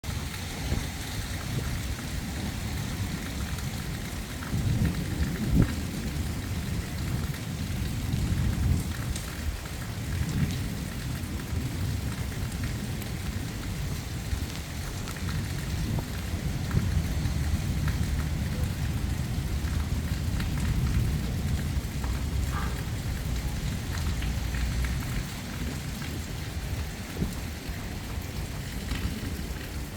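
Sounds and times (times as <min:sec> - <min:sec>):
steady rain: 0:00.0 - 0:29.9
low rolling thunder: 0:00.1 - 0:29.9.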